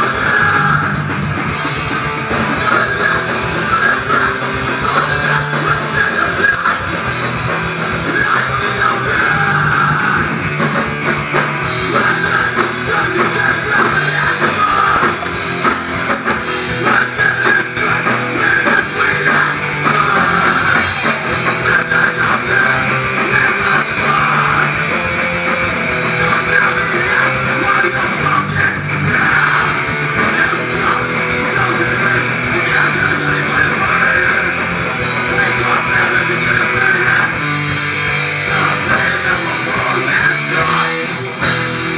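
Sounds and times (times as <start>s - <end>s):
distorted electric guitars: 0.0s - 41.9s
drum kit: 0.0s - 41.9s.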